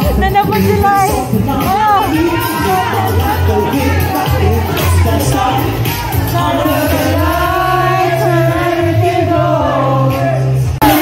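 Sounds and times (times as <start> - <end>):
live band playing dance music: 0.0 - 11.0
person singing: 0.0 - 11.0
steady bass line: 0.0 - 11.0.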